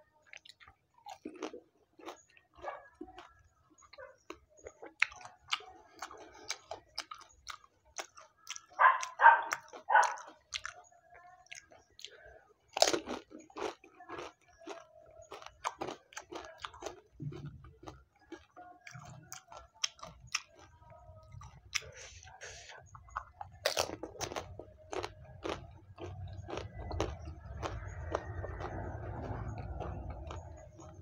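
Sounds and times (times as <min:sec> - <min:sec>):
person chewing crunchy food: 0:00.3 - 0:31.0.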